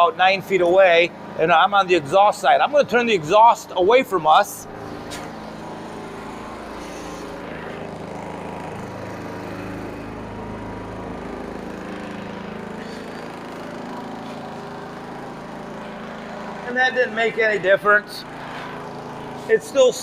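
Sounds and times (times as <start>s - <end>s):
generator running steadily: 0.0s - 20.0s.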